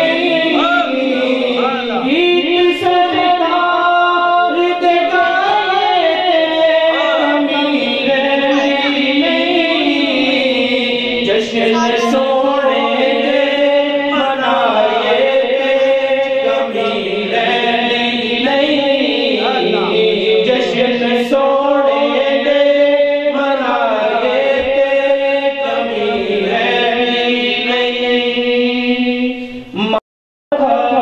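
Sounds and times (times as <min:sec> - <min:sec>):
man singing a devotional chant: 0:00.0 - 0:31.0.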